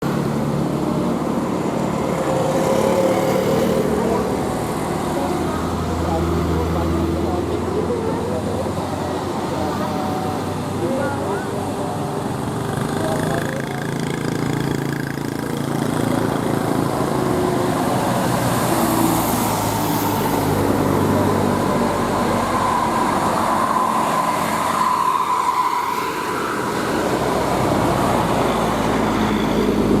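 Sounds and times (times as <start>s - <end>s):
bus engines droning: 0.0s - 30.0s
road noise: 0.0s - 30.0s.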